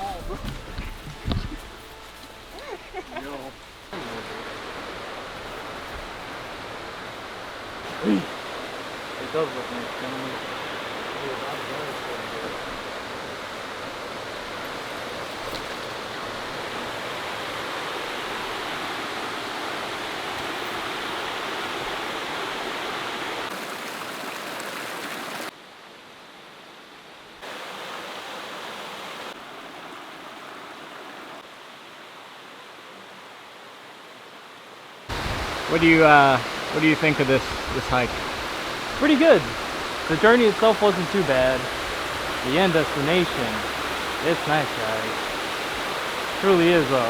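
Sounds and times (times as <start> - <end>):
waterfall rushing water: 0.0 - 25.6, 27.4 - 47.0.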